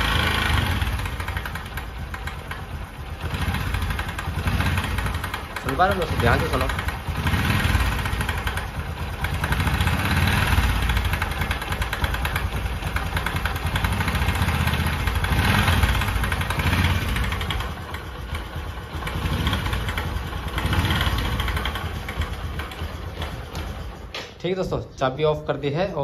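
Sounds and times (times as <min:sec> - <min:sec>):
fast fine engine ticking: 0:00.0 - 0:24.1
motorcycle engine idling: 0:00.0 - 0:26.0.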